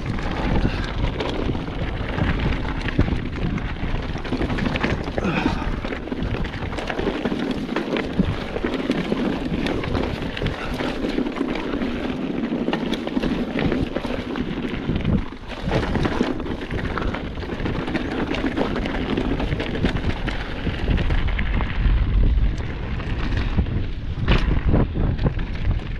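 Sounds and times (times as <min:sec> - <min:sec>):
bike rattling: 0:00.0 - 0:25.9
tyres crunching over stones: 0:00.0 - 0:25.9
wind buffeting microphone: 0:00.0 - 0:25.9.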